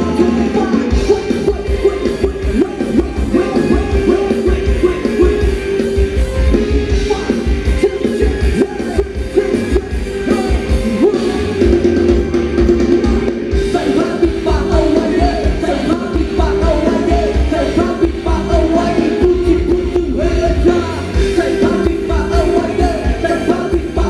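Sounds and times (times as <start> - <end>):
person singing: 0.0 - 5.6, 6.6 - 24.0
dance band music with bass beat: 0.0 - 24.0.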